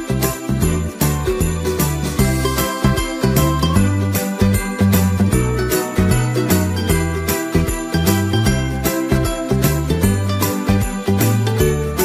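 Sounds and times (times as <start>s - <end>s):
instrumental music: 0.0s - 12.0s
sleigh bells with instrumental music: 0.0s - 12.0s.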